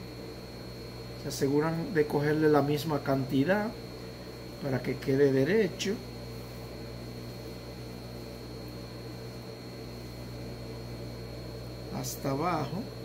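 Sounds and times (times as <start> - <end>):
electrical hum: 0.0 - 13.0
faint high whine: 0.0 - 13.0.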